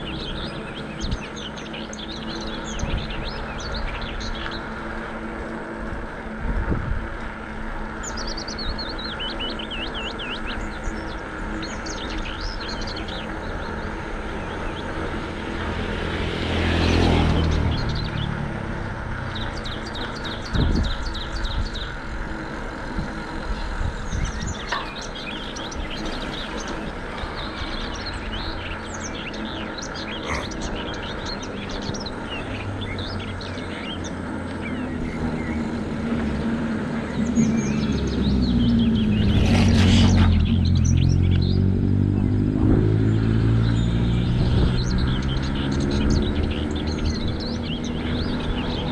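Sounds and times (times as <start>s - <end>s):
birds chirping: 0.0s - 48.9s
road traffic hum: 0.0s - 48.9s
vehicle tyres passing: 0.0s - 48.9s.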